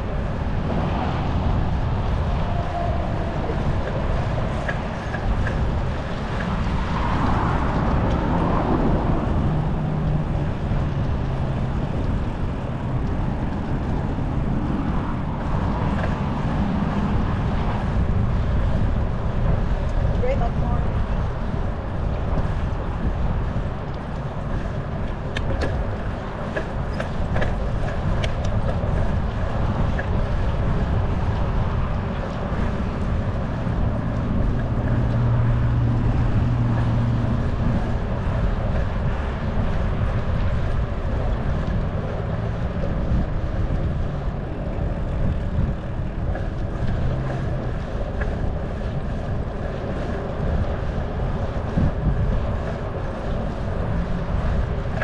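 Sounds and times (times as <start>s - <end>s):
bicycle rolling on pavement: 0.0s - 55.0s
wind rush on microphone: 0.0s - 55.0s.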